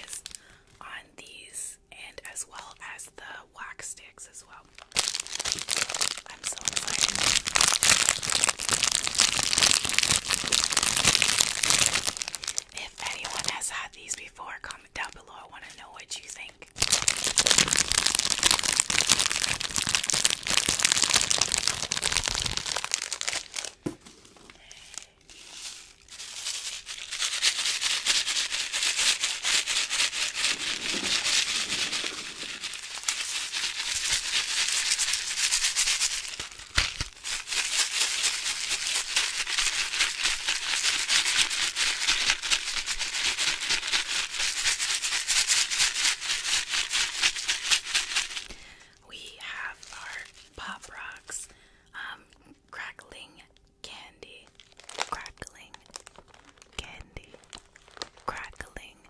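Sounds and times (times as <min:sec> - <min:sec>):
plastic packaging crinkling: 0:04.6 - 0:15.2, 0:16.4 - 0:51.3, 0:54.3 - 0:58.9.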